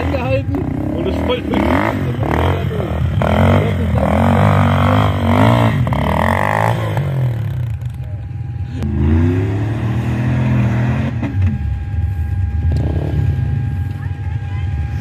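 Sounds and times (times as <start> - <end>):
quad bike engine revving: 0.0 - 15.0
vehicle engine climbing slope: 0.0 - 15.0.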